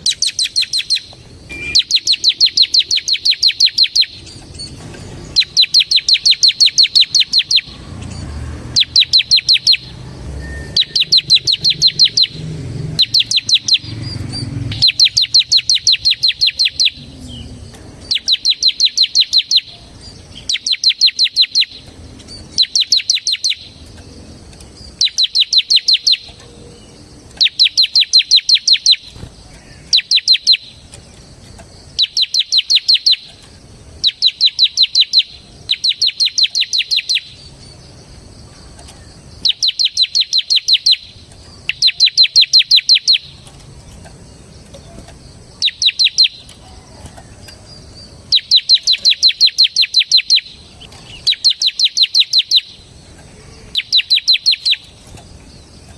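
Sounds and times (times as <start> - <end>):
bird song of rapid high chips: 0.0 - 55.9.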